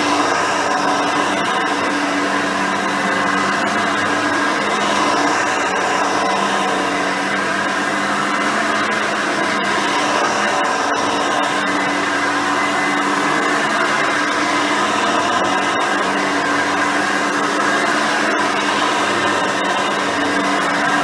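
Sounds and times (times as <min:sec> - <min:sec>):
upright vacuum cleaner running: 0:00.0 - 0:21.0.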